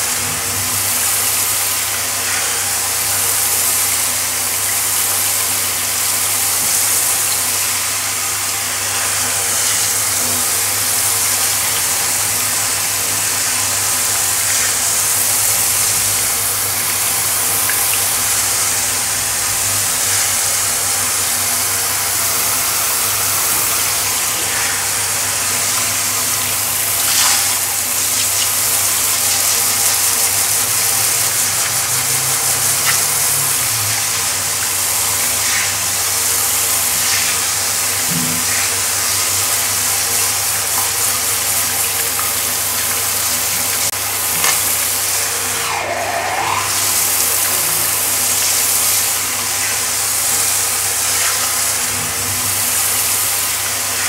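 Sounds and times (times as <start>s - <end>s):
shower spray hissing on tiles: 0.0s - 54.0s.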